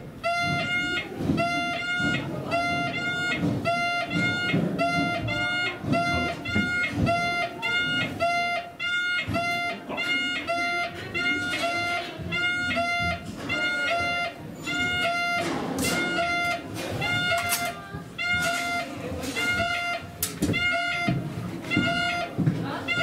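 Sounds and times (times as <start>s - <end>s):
murmur of voices: 0.0s - 23.0s
electronic alarm beeping: 0.2s - 23.0s.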